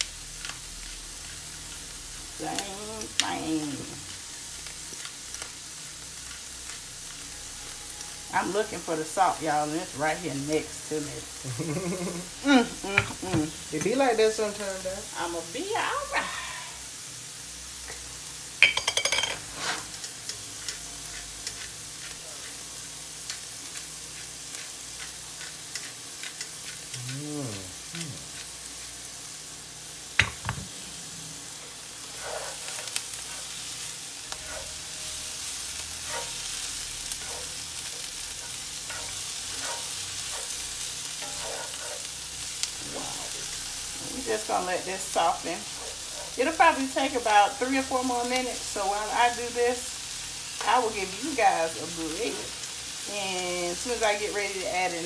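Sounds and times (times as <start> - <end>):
vegetables sizzling in skillet: 0.0 - 55.0.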